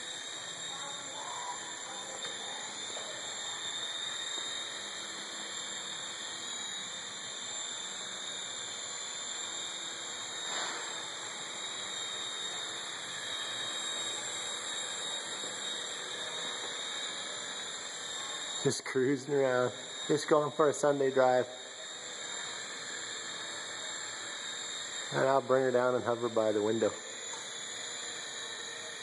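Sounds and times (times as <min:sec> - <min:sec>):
rc helicopter motor whine: 0:00.0 - 0:29.0.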